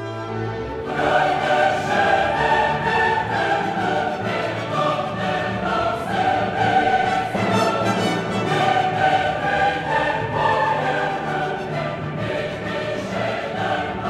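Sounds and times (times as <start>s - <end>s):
choir singing: 0.0s - 14.0s
orchestra playing: 0.0s - 14.0s.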